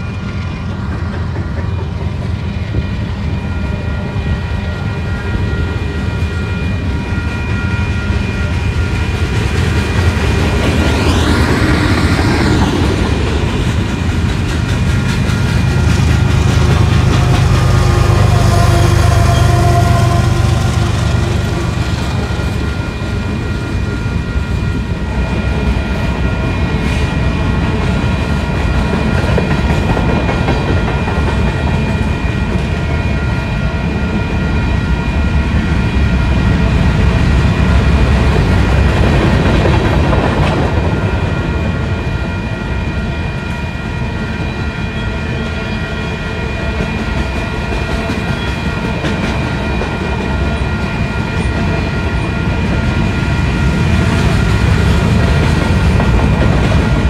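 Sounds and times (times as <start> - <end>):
freight cars rumbling on rails: 0.0 - 57.0.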